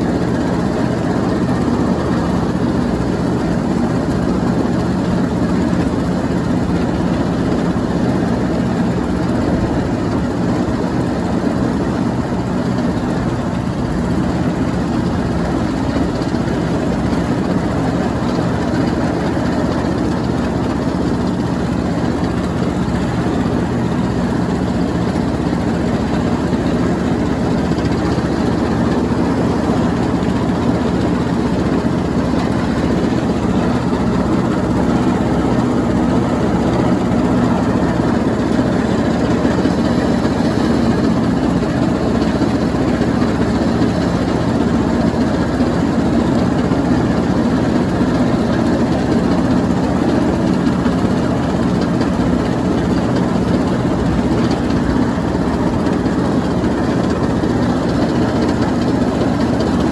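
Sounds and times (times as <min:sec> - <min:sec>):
riding lawn mower droning: 0:00.0 - 0:59.9.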